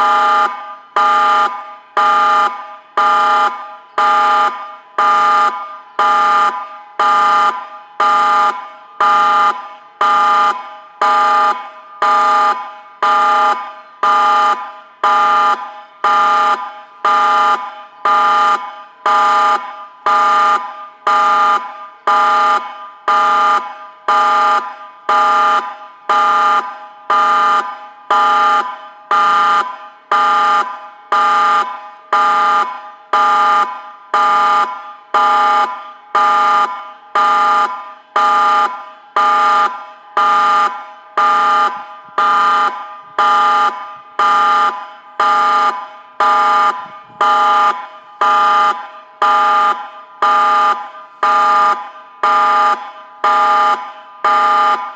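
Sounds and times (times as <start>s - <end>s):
warning siren blasts: 0.0s - 54.9s.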